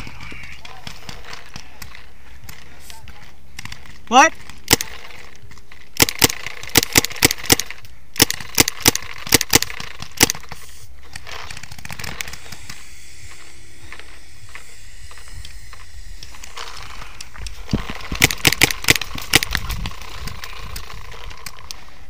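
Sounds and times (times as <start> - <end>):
paintball markers firing: 0.0 - 21.9.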